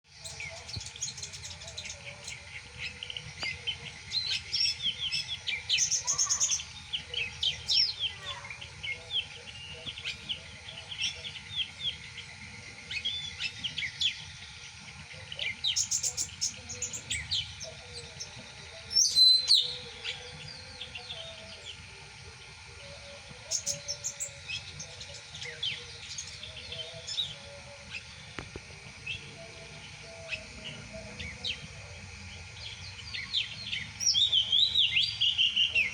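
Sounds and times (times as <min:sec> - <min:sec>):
songbirds chirping and singing: 0:00.1 - 0:35.9.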